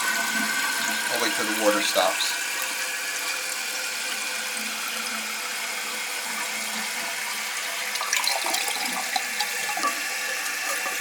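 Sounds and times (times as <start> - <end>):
toilet tank refilling: 0.0 - 11.0.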